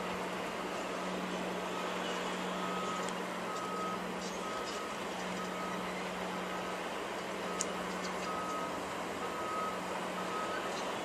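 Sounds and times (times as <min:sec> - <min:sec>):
construction site noise: 0:00.0 - 0:11.0
vehicle backup alarm beeping: 0:01.4 - 0:11.0.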